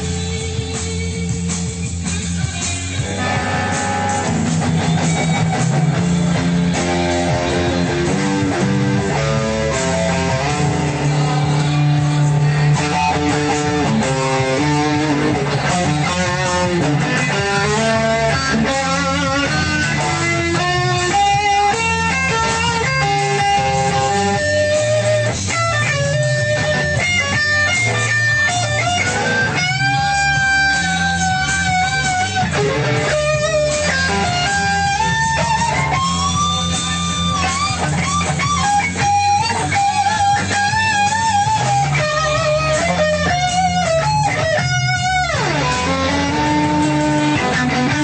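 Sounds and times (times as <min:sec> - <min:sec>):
backing track with bass: 0:00.0 - 0:48.0
electric guitar solo: 0:00.0 - 0:48.0.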